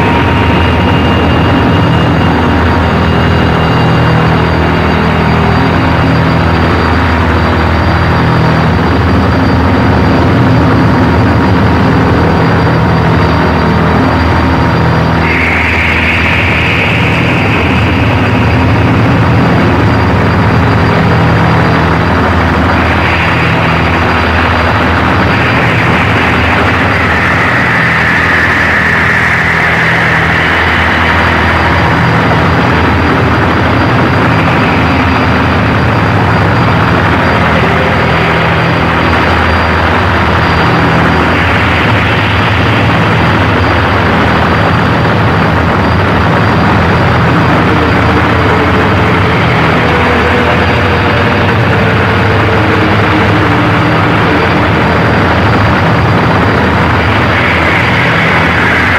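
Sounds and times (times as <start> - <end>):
distorted hiss: 0.0 - 58.9
low droning hum: 0.0 - 58.9
thin high whine: 0.0 - 58.9.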